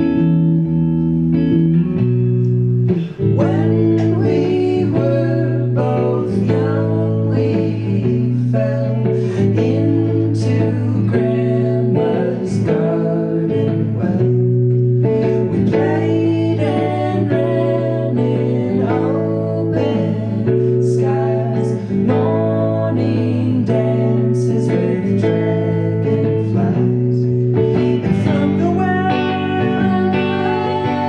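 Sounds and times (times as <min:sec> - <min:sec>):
electric guitar strumming: 0:00.0 - 0:31.0
man and woman singing: 0:03.2 - 0:31.0.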